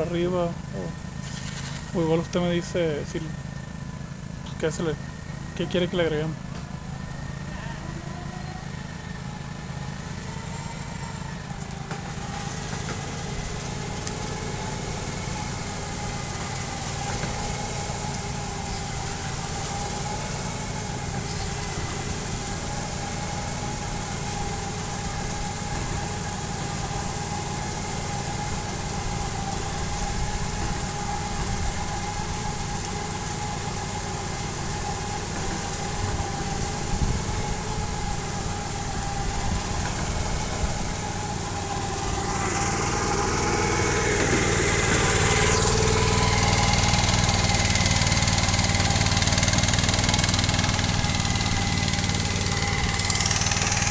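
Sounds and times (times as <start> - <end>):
sprayer engine rumbling: 0.0 - 53.9.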